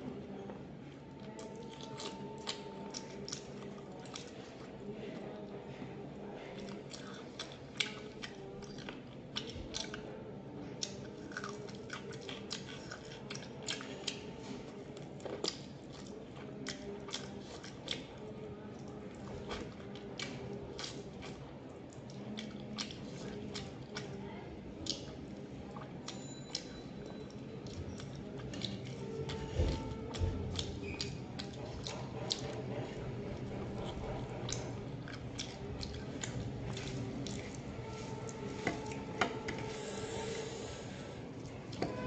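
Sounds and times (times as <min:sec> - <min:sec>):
person chewing and crunching food: 0:01.2 - 0:05.5, 0:06.5 - 0:10.0, 0:10.7 - 0:40.0.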